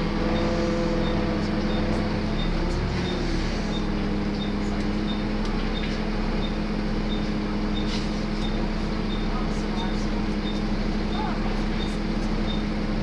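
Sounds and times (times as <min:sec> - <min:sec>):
bus diesel engine hum: 0:00.0 - 0:13.0.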